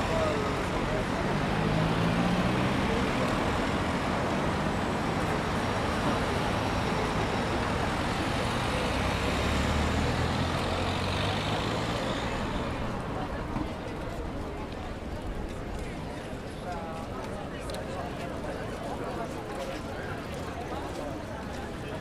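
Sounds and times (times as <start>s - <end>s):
vehicles passing with road noise: 0.0s - 22.0s.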